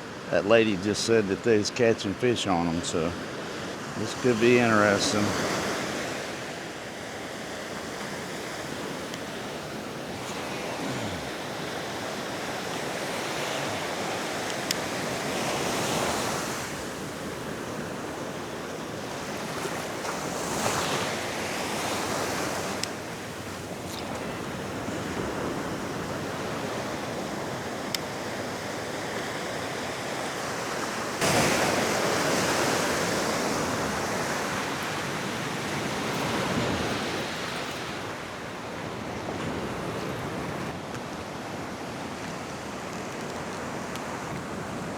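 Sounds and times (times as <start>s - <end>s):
ocean surf breaking: 0.0s - 44.9s.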